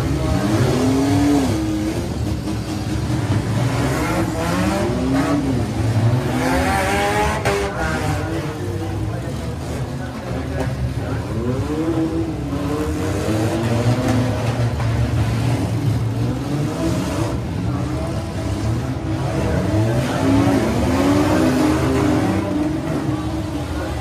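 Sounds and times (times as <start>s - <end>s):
car engines revving: 0.0s - 24.0s
crowd noise: 0.0s - 24.0s.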